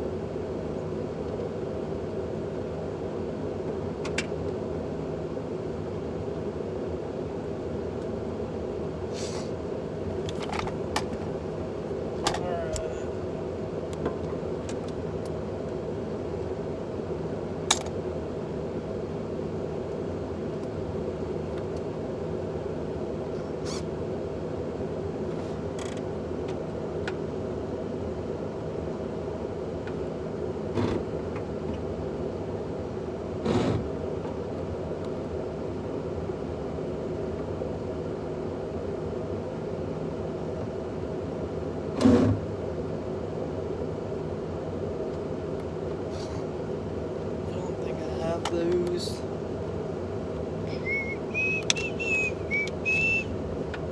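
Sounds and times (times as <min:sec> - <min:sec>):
mechanical hum: 0:00.0 - 0:53.9.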